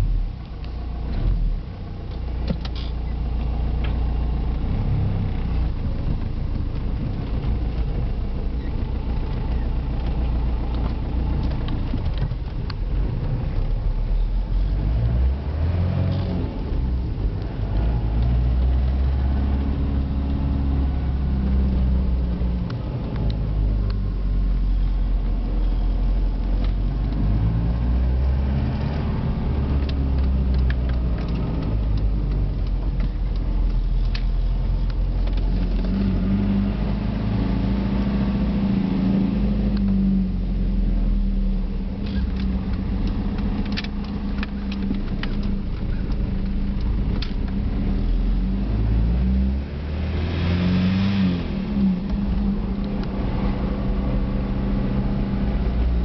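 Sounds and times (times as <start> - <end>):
car engine: 0.0 - 56.0
road noise inside car: 0.0 - 56.0.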